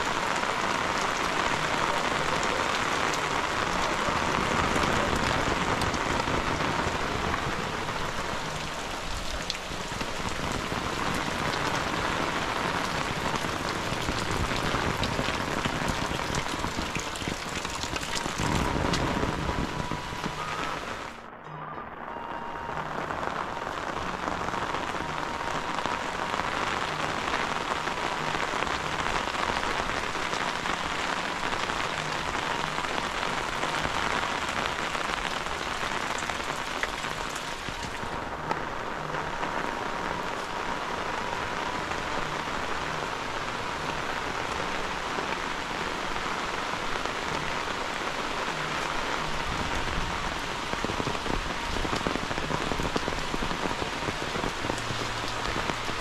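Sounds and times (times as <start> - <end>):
rainwater dripping off eaves: 0.0 - 21.3, 23.0 - 56.0
heavy rain on roofs and leaves: 0.0 - 21.4, 22.0 - 56.0.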